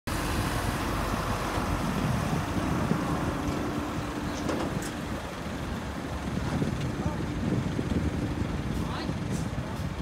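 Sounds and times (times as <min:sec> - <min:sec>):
heavy machinery rumbling: 0:00.1 - 0:10.0.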